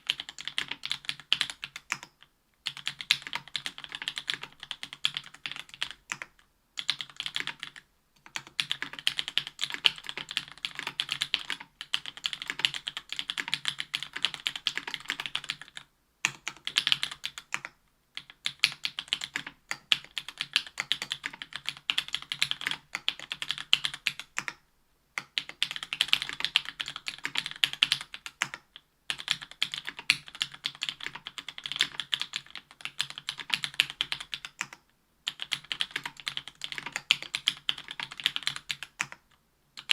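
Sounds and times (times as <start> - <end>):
mechanical keyboard typing: 0.0 - 24.6, 25.2 - 39.9.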